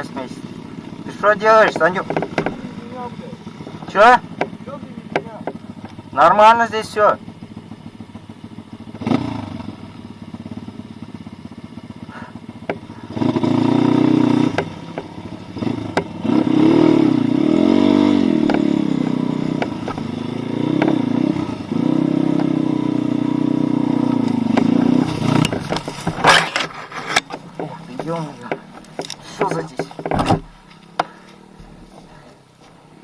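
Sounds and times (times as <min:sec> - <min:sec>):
small motorbike engine revving: 0:00.0 - 0:32.4.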